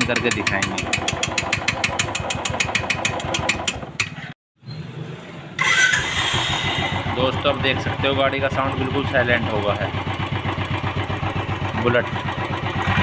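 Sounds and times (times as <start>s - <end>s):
fast engine ticking: 0.0s - 3.9s, 5.6s - 13.0s
motorcycle engine idling: 0.0s - 4.0s, 6.4s - 13.0s.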